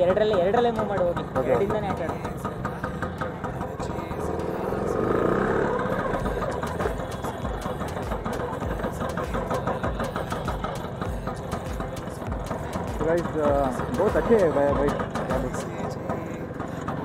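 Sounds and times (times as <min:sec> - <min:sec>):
scooter engine pulling away: 0:00.0 - 0:17.0.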